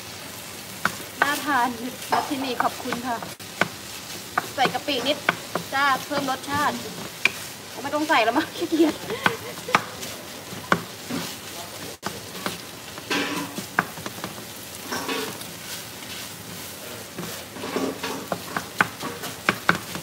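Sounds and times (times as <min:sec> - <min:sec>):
meat sizzling in a frying pan: 0:00.0 - 0:20.0
spatula tapping and scraping pan: 0:00.7 - 0:20.0.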